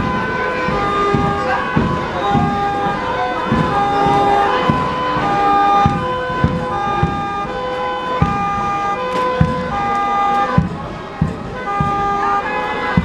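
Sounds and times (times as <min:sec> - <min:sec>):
drum beats: 0:00.0 - 0:13.0
wind instrument chords: 0:00.0 - 0:13.0.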